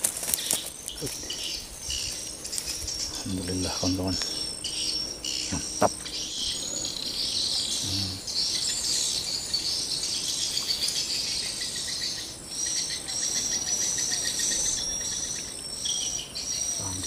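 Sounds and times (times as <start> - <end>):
insects calling: 0.0 - 17.0
thin steady whine: 0.0 - 17.0.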